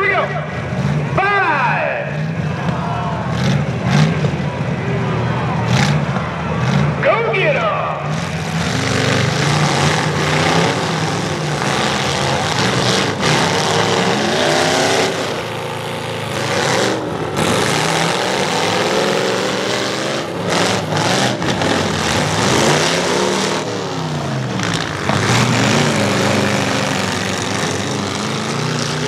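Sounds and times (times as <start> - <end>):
truck engines revving: 0.0 - 29.0
trucks colliding bangs: 5.5 - 29.0.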